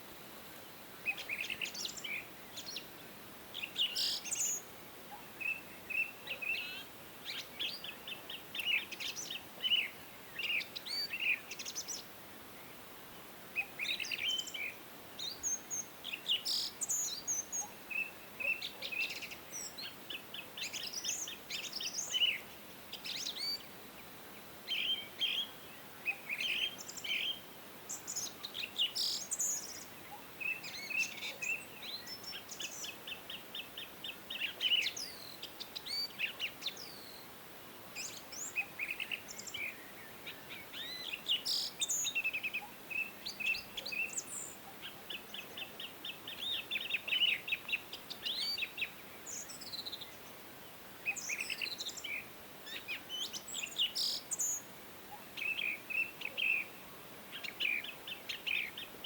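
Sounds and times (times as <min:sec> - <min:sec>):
faint steady hiss: 0:00.0 - 0:59.0
songbirds singing and chirping: 0:00.0 - 0:59.0.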